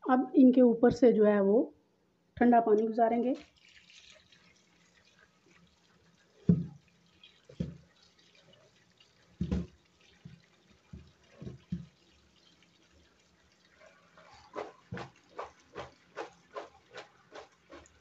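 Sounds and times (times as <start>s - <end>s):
tap water splashing: 3.3s - 18.0s.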